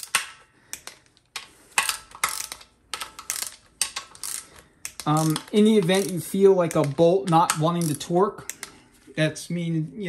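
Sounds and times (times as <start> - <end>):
ratcheting torque wrench clicking: 0.0 - 8.7.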